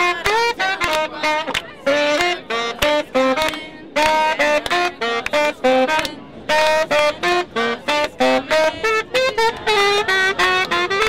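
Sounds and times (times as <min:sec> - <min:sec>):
reed instrument melody: 0:00.0 - 0:11.0.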